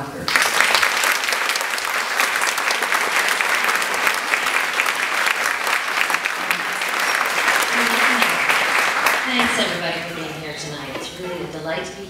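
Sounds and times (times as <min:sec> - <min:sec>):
audience applauding: 0:00.2 - 0:10.9.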